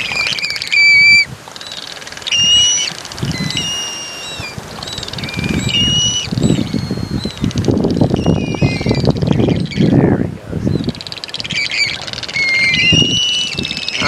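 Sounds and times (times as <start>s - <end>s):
gulls alarm calls: 0.0s - 14.0s.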